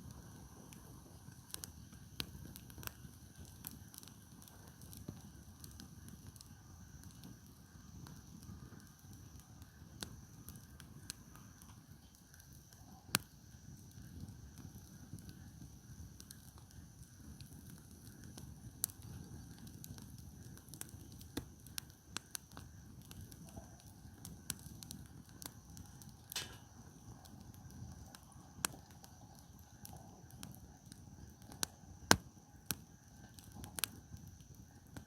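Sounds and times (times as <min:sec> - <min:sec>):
campfire crackles and pops: 0:00.0 - 0:35.0
low rumble of fire: 0:00.0 - 0:35.0.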